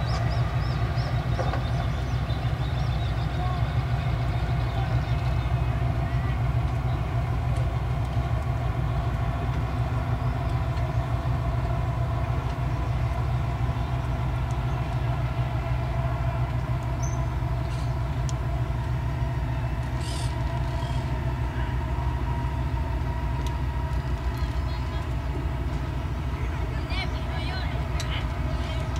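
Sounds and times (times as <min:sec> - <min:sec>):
boat engines droning: 0:00.0 - 0:28.9.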